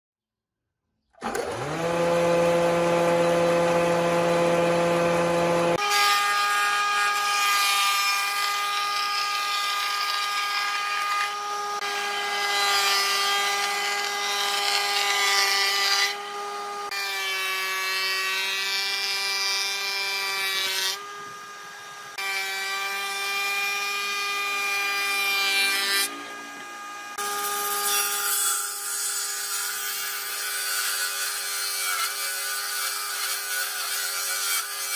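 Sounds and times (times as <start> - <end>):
power tool motor whine: 1.2 - 34.9.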